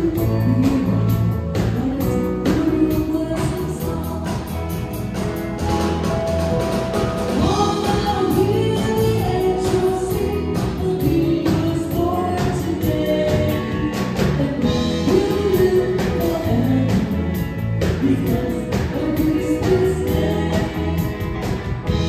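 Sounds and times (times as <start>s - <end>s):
women singing into microphones: 0.0s - 4.6s, 7.4s - 21.6s
drum kit beat: 0.0s - 22.0s
guitar: 0.0s - 22.0s
keyboard: 0.0s - 22.0s.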